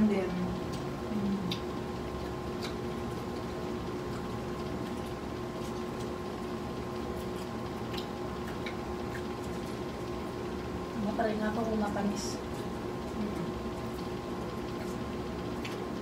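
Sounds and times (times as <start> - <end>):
air conditioner humming: 0.0 - 16.0
chewing: 0.6 - 10.4, 12.4 - 16.0.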